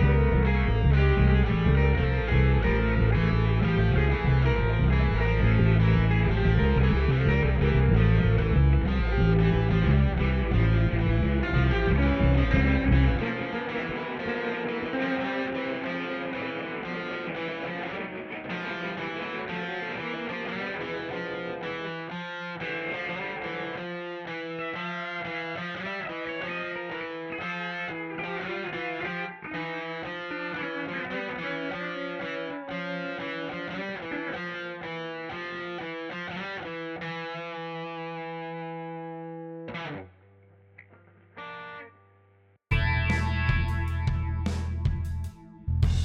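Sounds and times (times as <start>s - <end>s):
distorted electric guitar: 0.0s - 46.0s.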